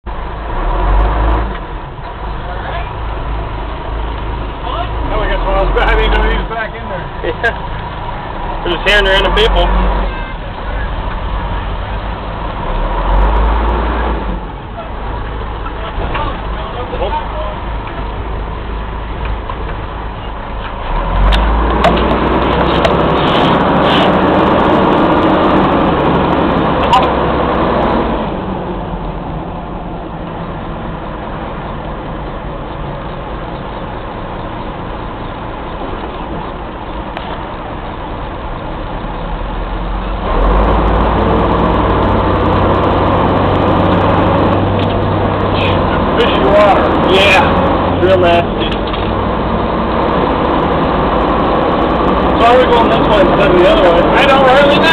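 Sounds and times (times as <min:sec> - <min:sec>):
fire engine running: 0:00.0 - 0:54.9.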